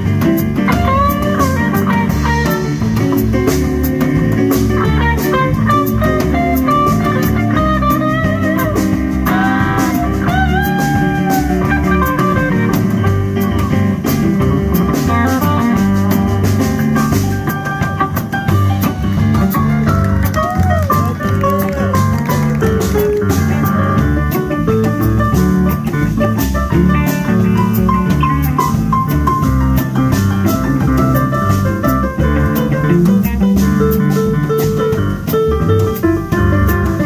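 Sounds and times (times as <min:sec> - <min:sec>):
blues band playing: 0:00.0 - 0:37.0
drum kit: 0:00.0 - 0:37.0
electric guitar lead: 0:00.0 - 0:37.0.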